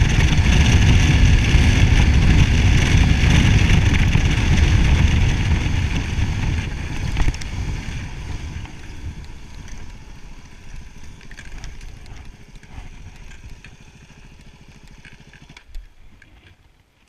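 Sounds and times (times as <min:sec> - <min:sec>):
motorcycle engine running at low revs: 0:00.0 - 0:16.9.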